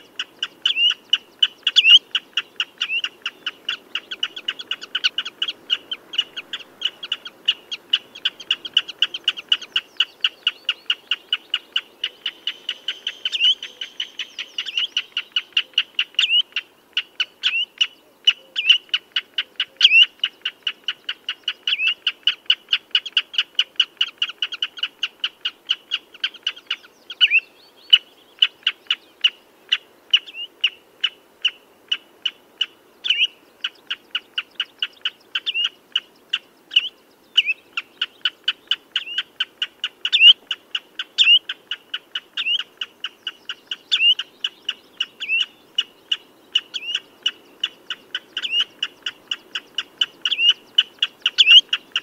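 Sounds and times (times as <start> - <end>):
redshank piping calls: 0.0 - 52.0.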